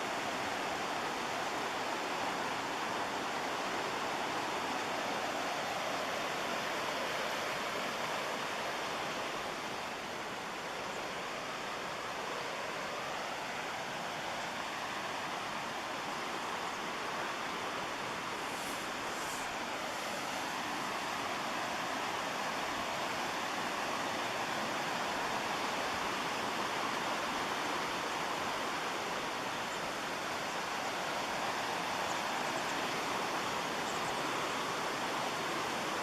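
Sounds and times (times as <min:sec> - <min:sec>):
roar of river falls: 0:00.0 - 0:36.0.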